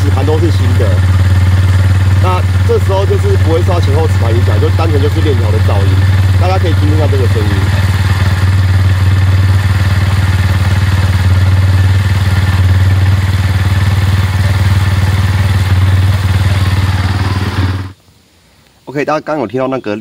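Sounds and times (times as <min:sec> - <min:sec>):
motorcycle engine humming: 0:00.0 - 0:18.1.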